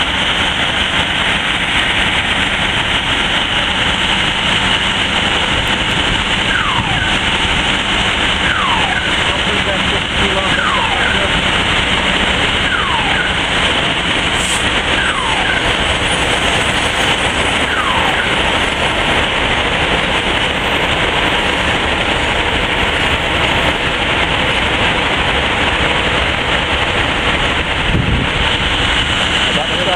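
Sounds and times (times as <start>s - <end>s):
fire engines rushing drone: 0.0s - 29.9s.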